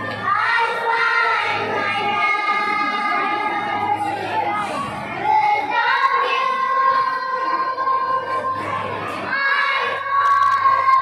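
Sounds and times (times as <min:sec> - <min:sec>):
girls singing together: 0:00.0 - 0:11.0.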